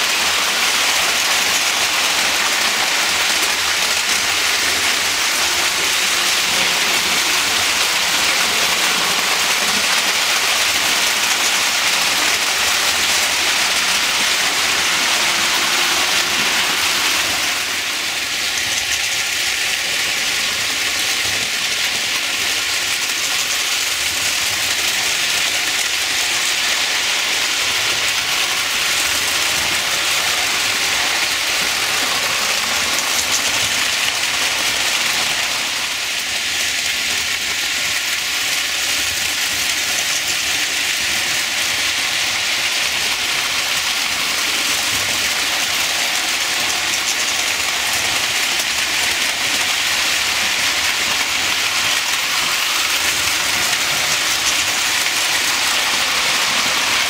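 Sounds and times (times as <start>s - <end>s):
toy trains whirring on metal track: 0.0s - 57.0s.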